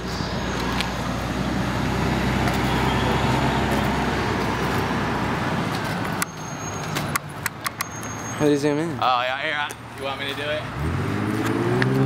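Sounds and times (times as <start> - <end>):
passing vehicle rumble: 0.0 - 12.0.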